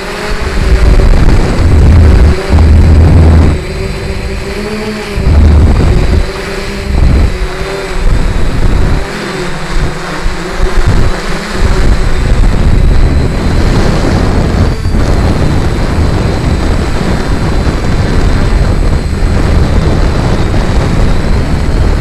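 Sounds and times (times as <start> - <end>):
quadcopter motors humming: 0.0 - 22.0
wind buffeting microphone: 0.0 - 22.0.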